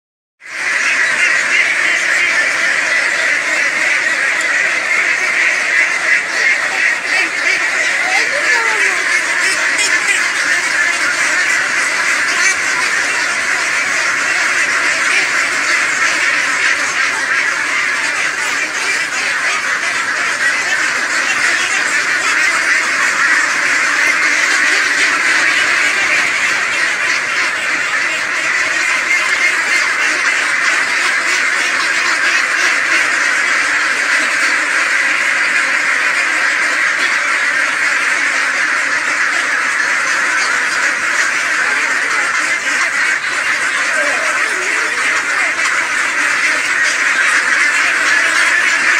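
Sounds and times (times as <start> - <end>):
flock of ducks quacking: 0.4 - 48.9.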